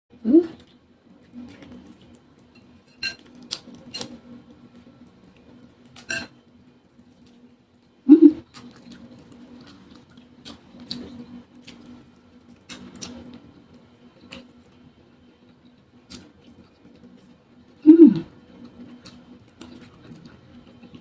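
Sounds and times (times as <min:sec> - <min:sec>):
soft chewing and smacking: 0:00.5 - 0:21.0.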